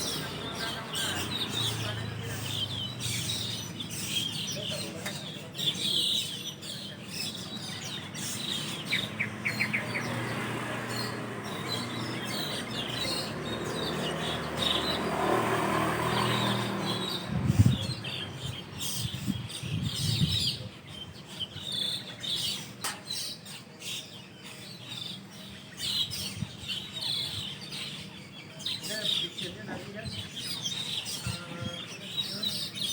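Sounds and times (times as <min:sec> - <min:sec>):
starlings chirping: 0:00.0 - 0:32.9.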